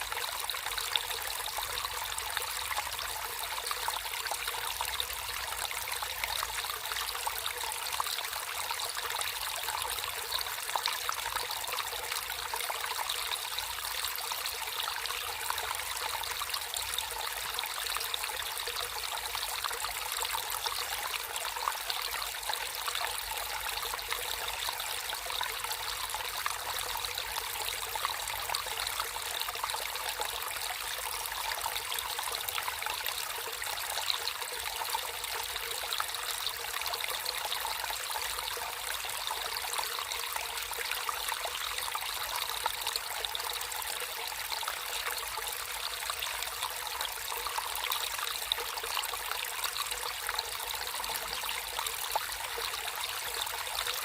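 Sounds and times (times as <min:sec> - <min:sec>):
stream water trickling: 0:00.0 - 0:54.0.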